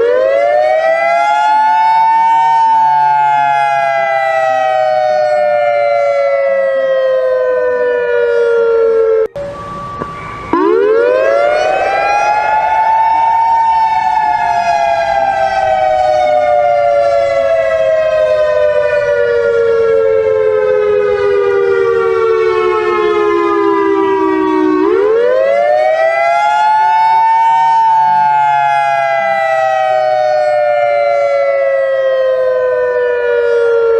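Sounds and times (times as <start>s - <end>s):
siren wailing: 0.0s - 33.9s.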